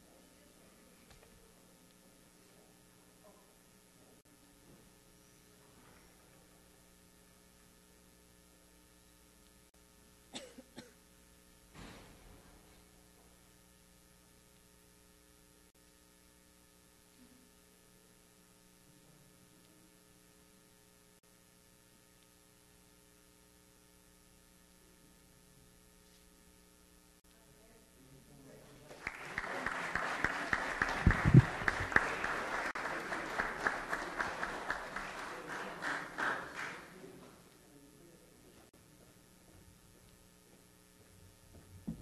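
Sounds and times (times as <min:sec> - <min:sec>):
steady electrical hum: 0:00.0 - 0:42.0.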